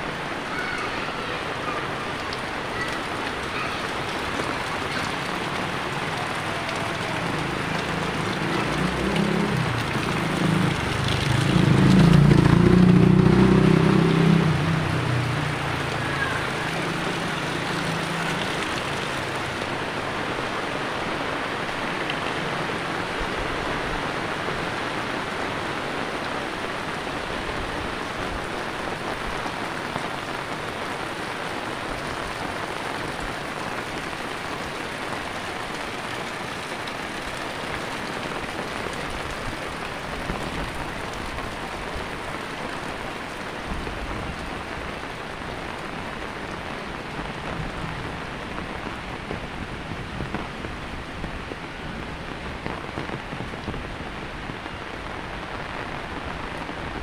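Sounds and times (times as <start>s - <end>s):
heavy rain on a wet road: 0.0s - 57.0s.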